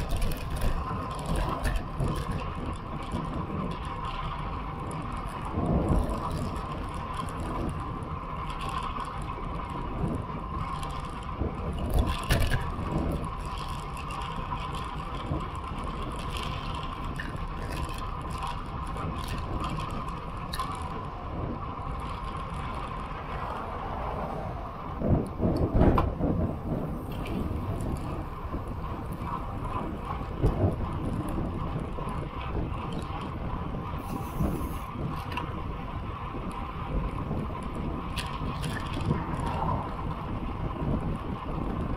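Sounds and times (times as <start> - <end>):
bicycle tyre road noise: 0.0 - 41.9
wind rush on microphone: 0.0 - 41.9.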